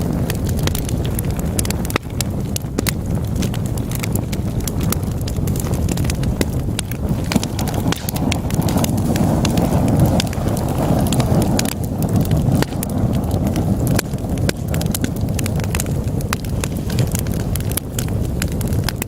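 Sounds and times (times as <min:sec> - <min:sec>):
fire rumbling in a fireplace: 0:00.0 - 0:19.0
logs crackling and popping: 0:00.0 - 0:19.0.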